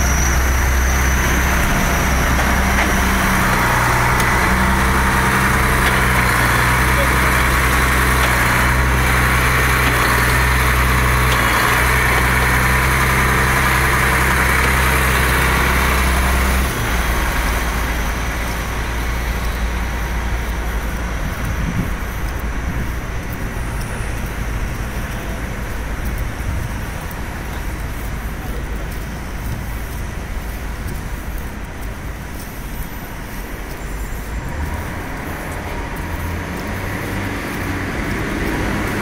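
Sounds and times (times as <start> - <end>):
tractor engine idling: 0.0 - 39.0
vehicles driving on wet street: 0.0 - 39.0.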